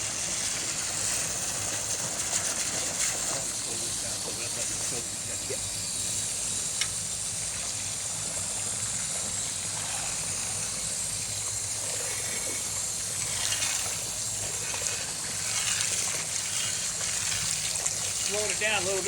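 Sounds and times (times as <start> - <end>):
low machinery hum: 0.0 - 19.0
water rushing through tank: 0.0 - 19.0.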